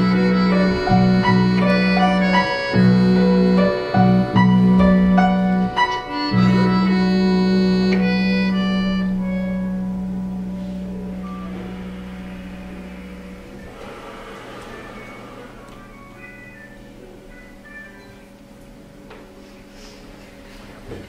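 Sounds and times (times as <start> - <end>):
accordion keyboard and guitar ensemble: 0.0 - 19.7.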